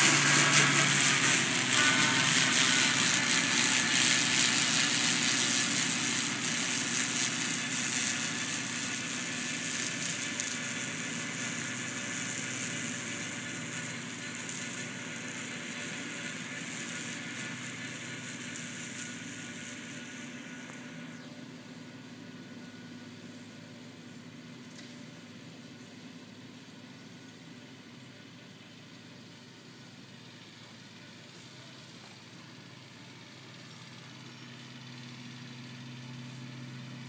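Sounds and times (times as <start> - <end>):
flail mower cutting grass: 0.0 - 37.0
tractor diesel engine running: 0.0 - 37.0.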